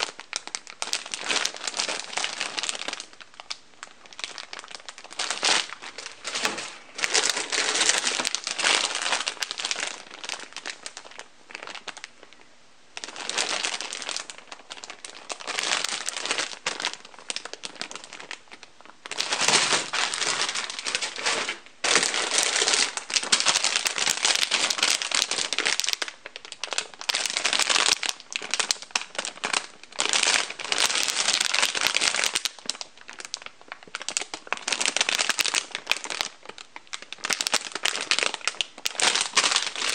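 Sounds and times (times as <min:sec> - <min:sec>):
plastic bags crinkling: 0:00.0 - 0:39.9.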